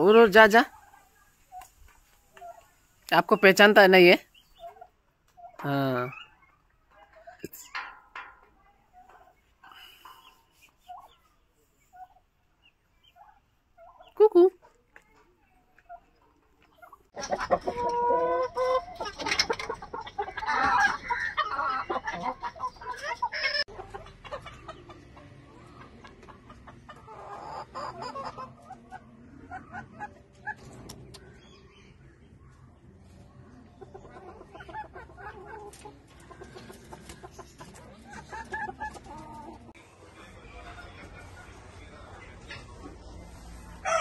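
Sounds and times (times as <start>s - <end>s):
chickens clucking: 0.0s - 44.0s.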